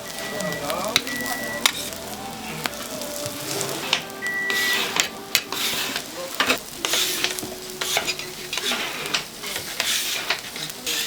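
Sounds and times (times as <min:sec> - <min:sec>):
food sizzling in a pan: 0:00.0 - 0:11.0
utensil scraping metal pan: 0:00.0 - 0:11.0.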